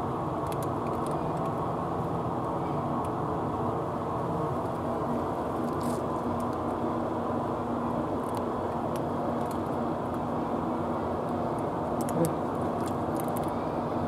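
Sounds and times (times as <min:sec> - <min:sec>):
constant hum: 0:00.0 - 0:14.0
low mechanical rumble: 0:00.0 - 0:14.0.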